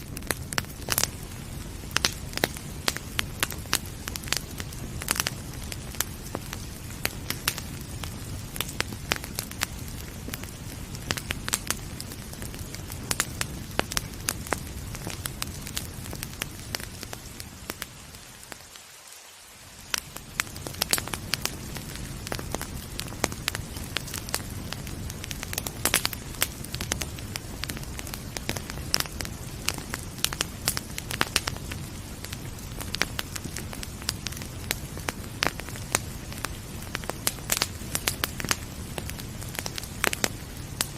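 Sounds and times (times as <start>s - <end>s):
wood fire crackling and popping: 0.0s - 18.9s, 19.6s - 40.9s
rain hissing: 0.0s - 40.9s.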